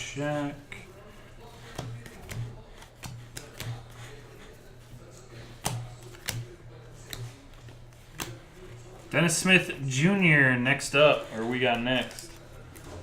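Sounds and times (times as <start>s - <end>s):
cards flipped and slid by hand: 0.4s - 9.2s, 11.1s - 13.0s.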